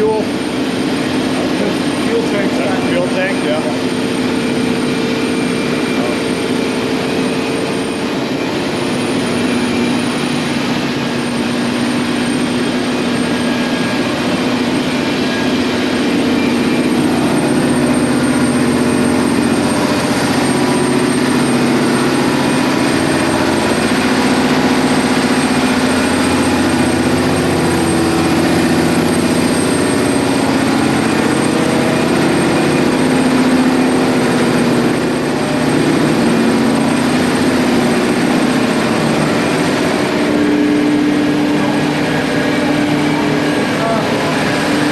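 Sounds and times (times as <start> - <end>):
heavy ship machinery droning: 0.0 - 44.9.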